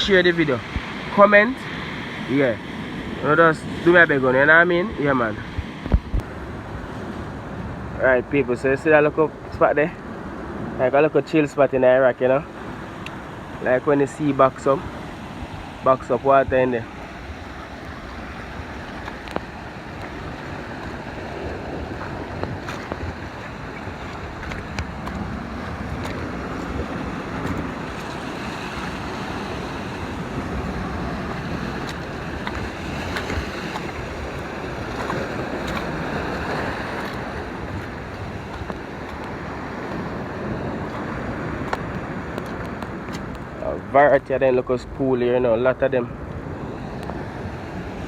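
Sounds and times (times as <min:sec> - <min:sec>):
wind on microphone: 0:00.0 - 0:08.4, 0:12.4 - 0:44.2, 0:46.1 - 0:48.0
surf washing against rocks: 0:00.0 - 0:48.0.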